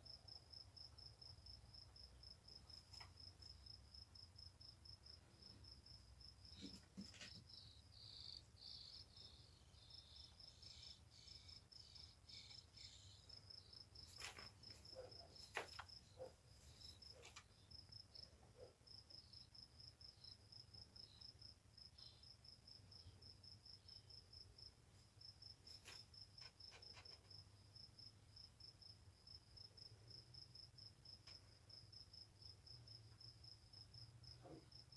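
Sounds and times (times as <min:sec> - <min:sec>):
cricket chirping: 0:00.0 - 0:34.9.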